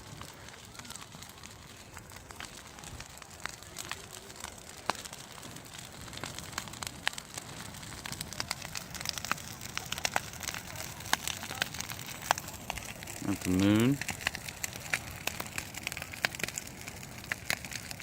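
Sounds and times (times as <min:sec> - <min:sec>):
bonfire crackling and popping: 0:00.0 - 0:18.0
low rush of flame: 0:00.0 - 0:18.0.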